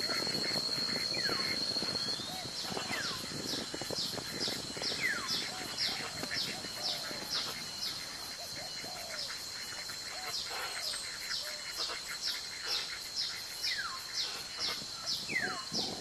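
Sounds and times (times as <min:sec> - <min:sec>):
bird chirping: 0:00.0 - 0:16.0
insect drone: 0:00.0 - 0:16.0.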